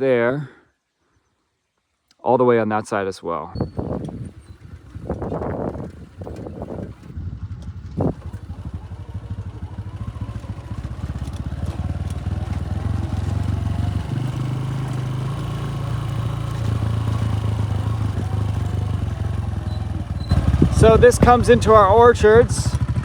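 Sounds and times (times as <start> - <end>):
motorcycle engine revving: 3.6 - 23.0.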